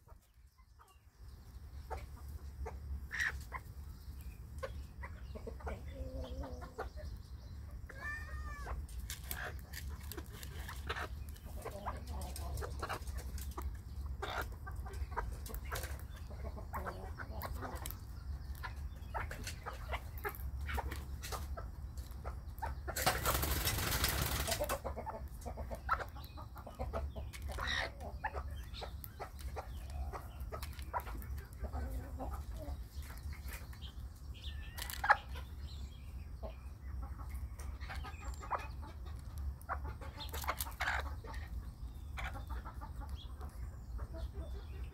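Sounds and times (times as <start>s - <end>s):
hens clucking: 0.0s - 44.9s.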